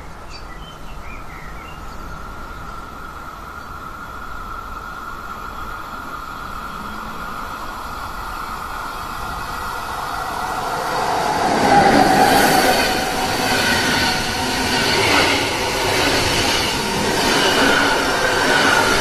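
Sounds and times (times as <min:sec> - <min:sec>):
high steady train whine: 0:00.0 - 0:19.0
train rolling past: 0:02.1 - 0:19.0.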